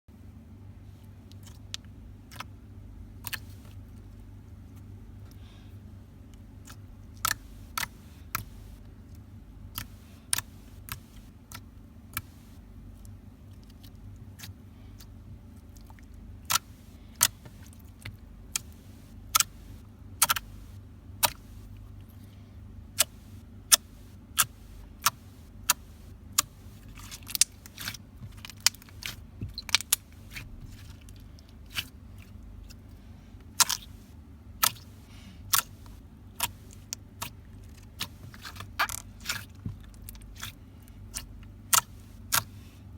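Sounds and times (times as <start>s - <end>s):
steady low hum: 0.2s - 42.9s.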